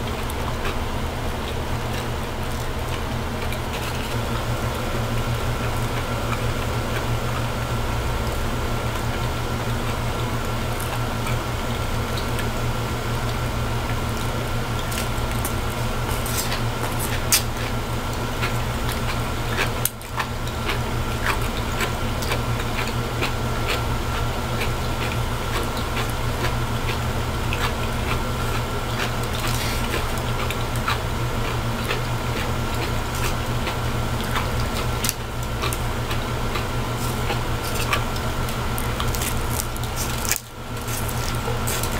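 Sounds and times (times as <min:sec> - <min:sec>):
steady low hum: 0:00.0 - 0:41.9
chewing and slurping noodles: 0:00.1 - 0:41.9.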